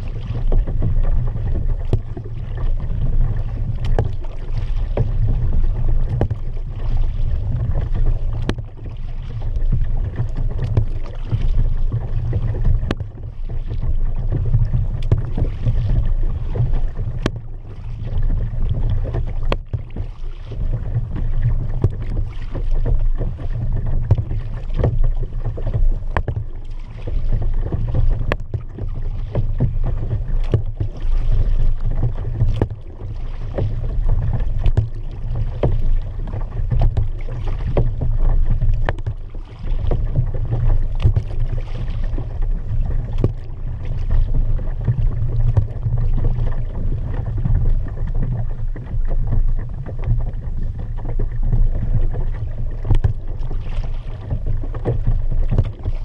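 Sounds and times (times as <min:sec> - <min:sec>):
paddle dipping into water: 0:00.0 - 0:56.0
steady low rumble: 0:00.0 - 0:56.0.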